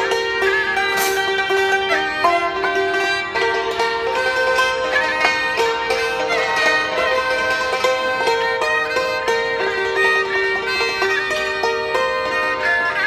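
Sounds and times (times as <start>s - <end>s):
bowed fiddle melody: 0.0s - 13.0s
hammered dulcimer notes: 0.0s - 13.0s.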